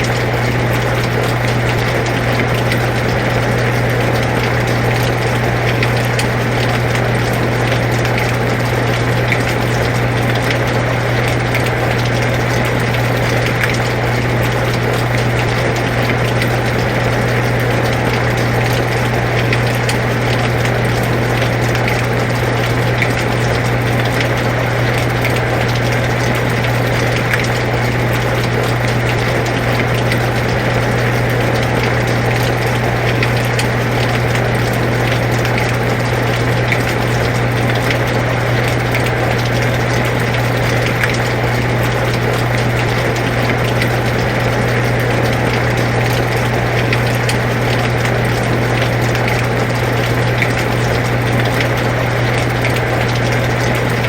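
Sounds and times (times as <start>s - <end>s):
air conditioner humming: 0.0s - 54.0s
steady rain: 0.0s - 54.0s.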